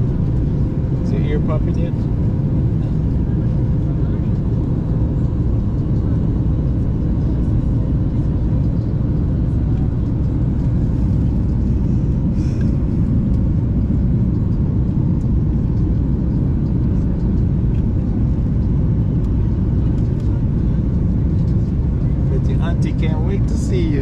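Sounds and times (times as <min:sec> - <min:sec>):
airliner cabin roar: 0:00.0 - 0:24.0.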